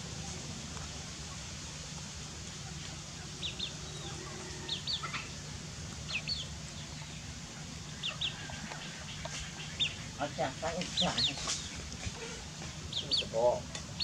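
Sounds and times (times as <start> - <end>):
steady low hum: 0.0 - 14.0
birds chirping: 2.6 - 14.0.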